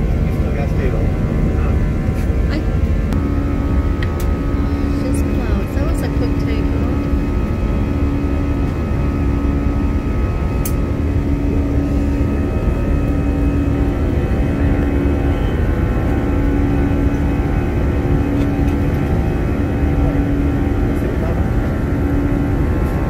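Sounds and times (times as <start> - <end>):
jet airliner cabin noise: 0.0 - 23.0.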